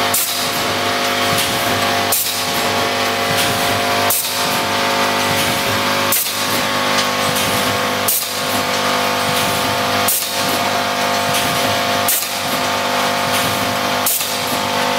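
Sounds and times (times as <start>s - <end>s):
machine cycling bursts: 0.0s - 14.9s
packaging machine humming: 0.0s - 14.9s.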